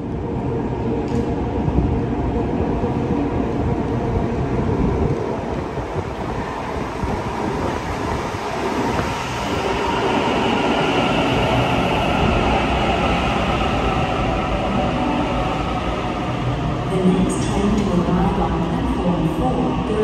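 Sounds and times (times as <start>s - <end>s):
high train whine: 0.0s - 20.0s
train rumbling into station: 0.0s - 20.0s.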